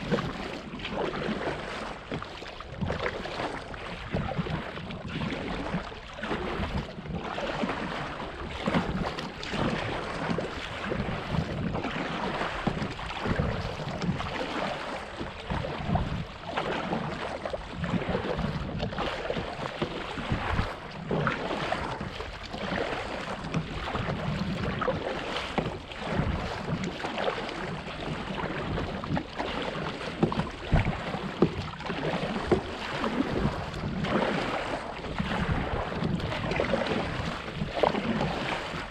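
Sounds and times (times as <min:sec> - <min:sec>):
water lapping against kayak hull: 0:00.0 - 0:38.9
wind rumbling on microphone: 0:00.0 - 0:38.9.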